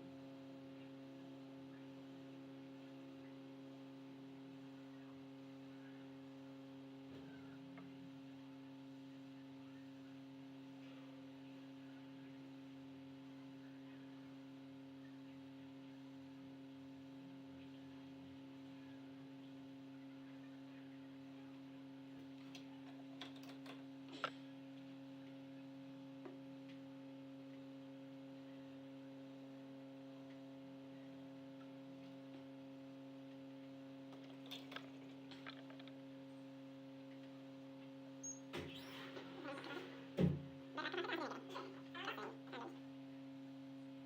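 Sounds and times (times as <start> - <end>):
faint electrical hum: 0.0 - 44.0.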